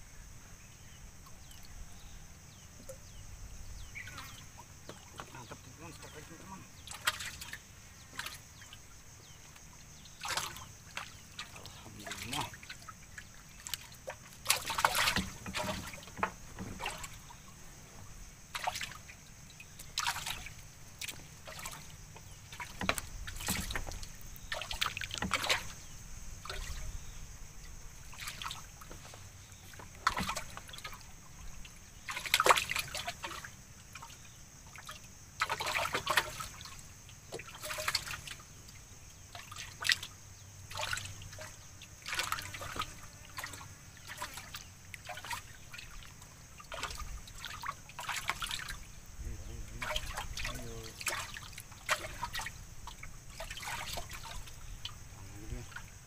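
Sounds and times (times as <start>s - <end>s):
water trickling and sloshing: 0.0s - 56.0s
paddle splashing in water: 2.6s - 56.0s.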